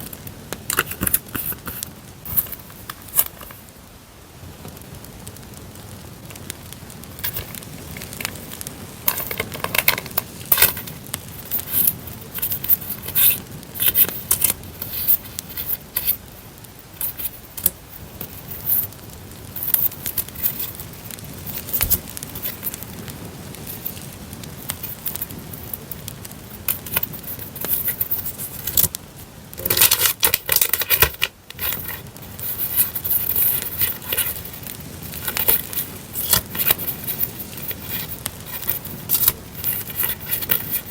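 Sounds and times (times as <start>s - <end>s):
paper rustling and crinkling: 0.0s - 3.7s, 7.2s - 8.4s, 9.0s - 16.2s, 16.8s - 18.9s, 19.5s - 28.9s, 29.6s - 40.9s
campfire crackle: 0.0s - 40.9s.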